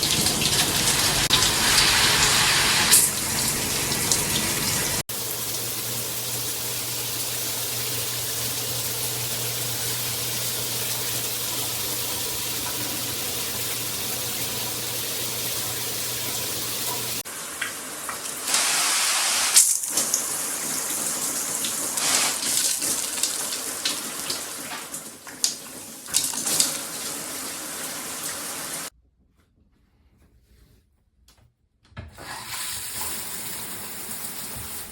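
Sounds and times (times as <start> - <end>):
water spraying from shower head: 0.0 - 25.1, 26.0 - 28.9.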